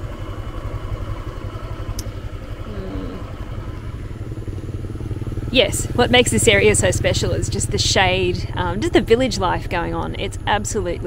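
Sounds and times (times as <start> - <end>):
motorbike engine puttering: 0.0 - 11.0.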